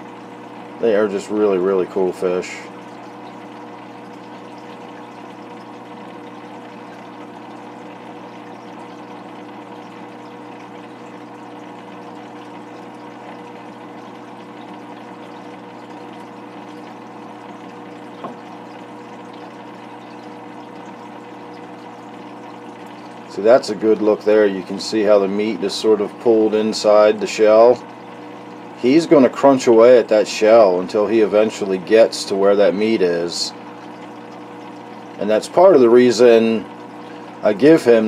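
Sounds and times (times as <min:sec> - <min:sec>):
aquarium filter pump humming: 0:00.0 - 0:38.0
moving water: 0:00.0 - 0:38.0.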